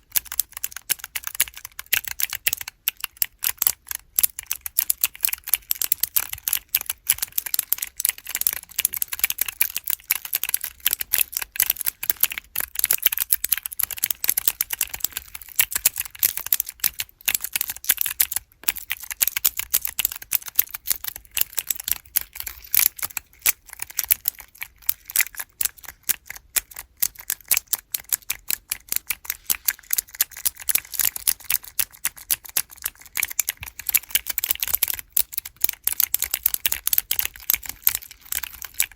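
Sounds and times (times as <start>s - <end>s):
mechanical keyboard keys clicking: 0.0s - 38.9s.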